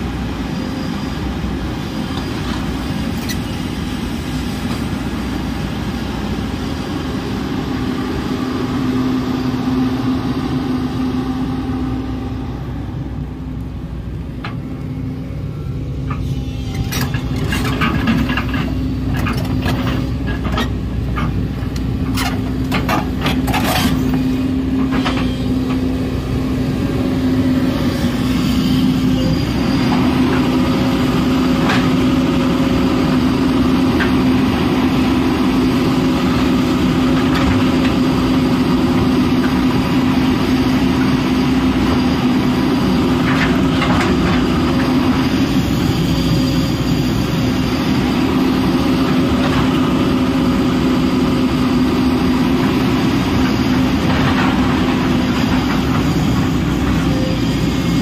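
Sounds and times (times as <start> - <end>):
excavator diesel engine humming: 0.0 - 58.0.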